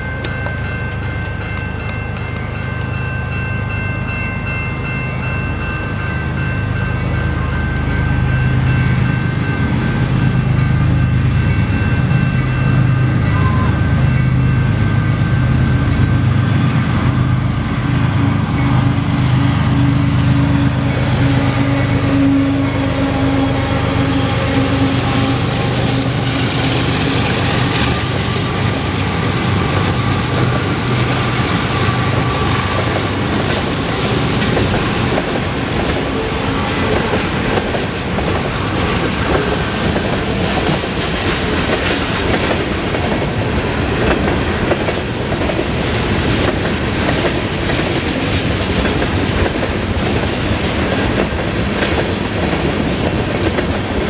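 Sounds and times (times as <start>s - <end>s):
diesel locomotives rumbling: 0.0s - 54.0s.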